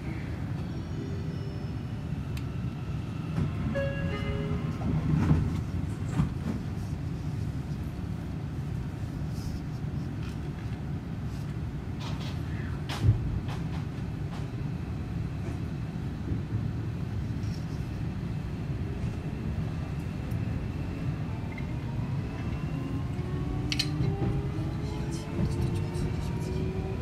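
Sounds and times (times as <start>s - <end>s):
train wheels rumbling on rail: 2.0s - 27.0s.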